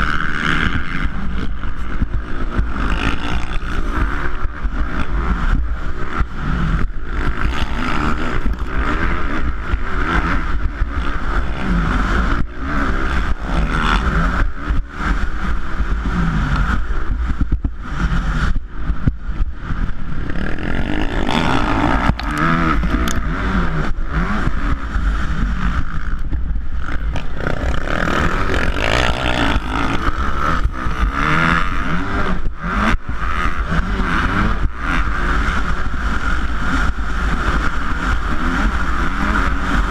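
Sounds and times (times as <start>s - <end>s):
motocross bikes racing: 0.0s - 39.9s.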